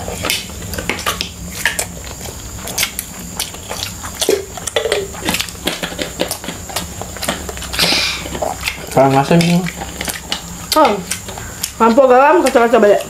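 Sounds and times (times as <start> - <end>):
people chewing: 0.0 - 13.0
mouth clicks and smacks: 0.2 - 13.0.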